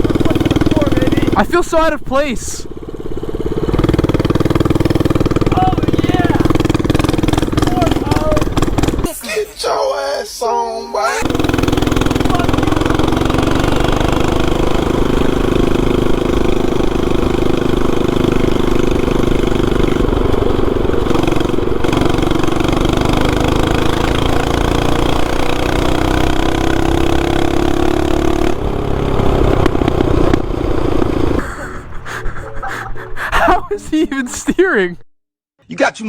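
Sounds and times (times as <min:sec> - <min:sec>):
small petrol engine running: 0:00.0 - 0:09.2, 0:11.2 - 0:34.0.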